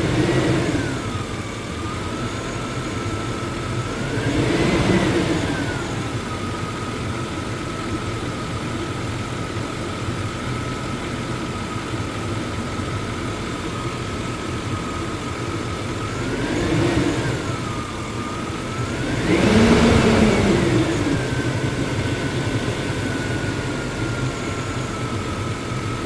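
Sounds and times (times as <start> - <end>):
engine whine: 0.0 - 26.0
truck engine idling and revving: 0.0 - 26.0.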